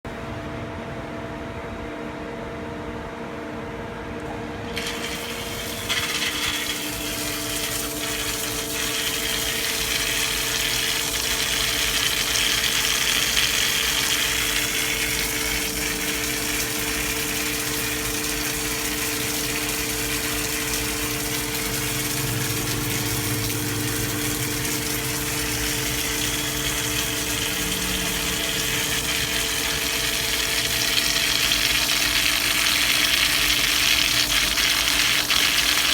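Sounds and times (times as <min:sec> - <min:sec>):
lathe machine hum: 0:04.6 - 0:35.9.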